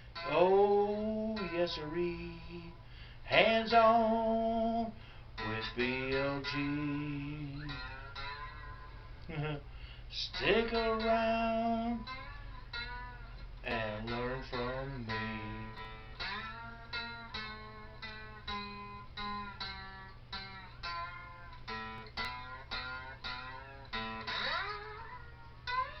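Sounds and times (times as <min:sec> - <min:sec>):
plucked guitar notes: 0:00.0 - 0:26.0.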